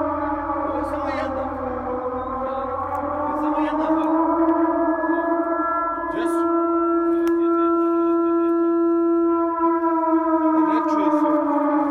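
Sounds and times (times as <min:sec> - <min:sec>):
air-raid siren: 0:00.0 - 0:11.9.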